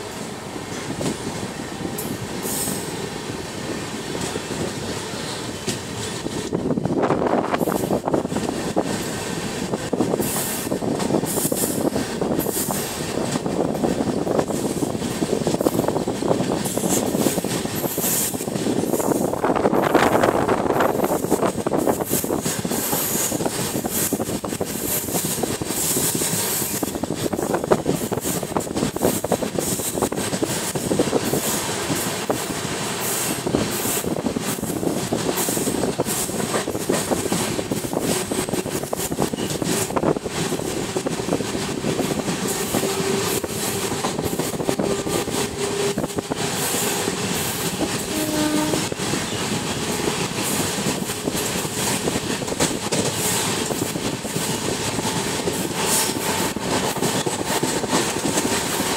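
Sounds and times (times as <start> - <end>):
train carriage rumbling and rattling: 0.0 - 58.9
wheels clicking over rail joints: 4.1 - 58.9.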